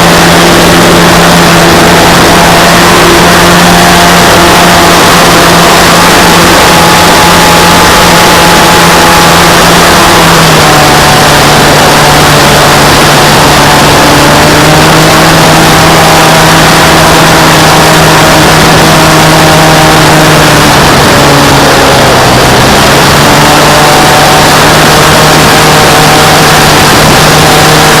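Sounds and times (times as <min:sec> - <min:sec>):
model airplane motor drone: 0:00.0 - 0:28.0.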